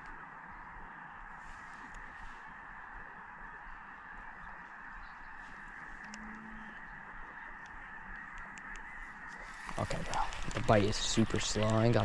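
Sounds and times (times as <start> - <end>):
ducks and geese honking: 0.0 - 12.0.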